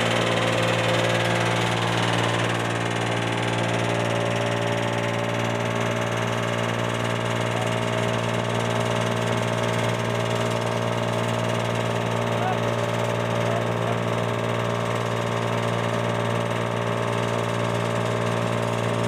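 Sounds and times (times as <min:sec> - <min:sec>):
tractor-driven cutting machine drone: 0:00.0 - 0:19.0.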